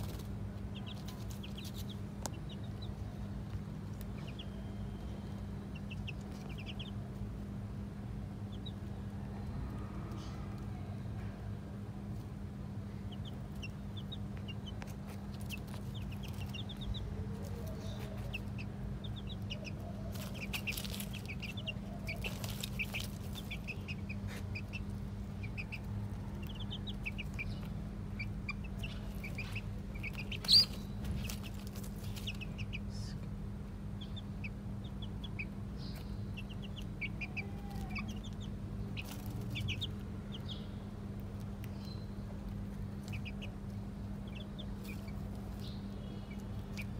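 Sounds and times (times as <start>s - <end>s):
chicks peeping: 0.0s - 10.9s, 11.7s - 46.9s
low hum: 0.0s - 46.9s.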